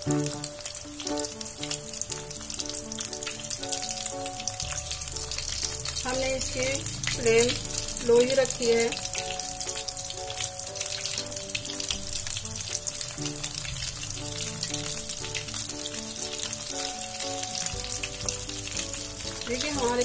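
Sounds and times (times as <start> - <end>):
oil sizzling while deep-frying: 0.0 - 20.0
soft background music: 0.0 - 20.0.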